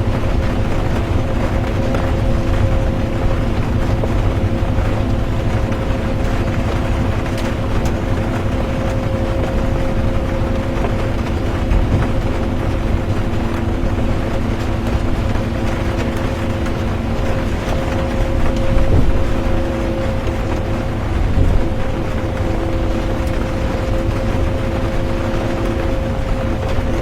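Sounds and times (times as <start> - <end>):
bus engine and road rumble: 0.0 - 27.0
constant hum: 0.0 - 27.0.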